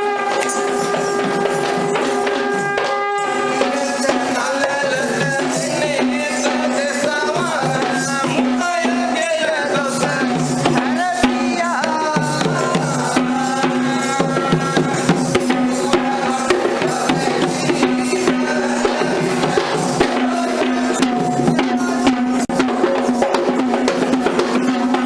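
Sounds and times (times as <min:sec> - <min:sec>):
drums and tambourine: 0:00.0 - 0:25.0.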